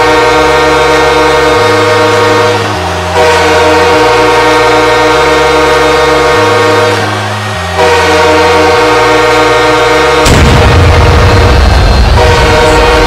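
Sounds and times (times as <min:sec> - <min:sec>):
deep bass line: 0:00.0 - 0:13.0
hockey goal horn blaring: 0:00.0 - 0:13.0.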